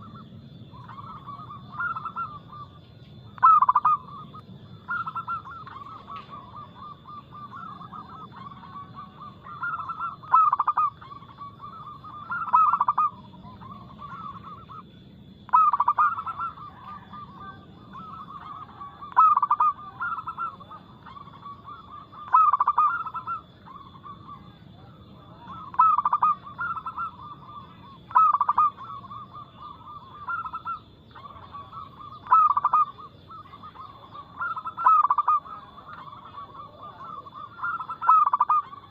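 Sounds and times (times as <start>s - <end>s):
dove cooing: 0.0s - 38.9s
faint high whine: 0.0s - 38.9s.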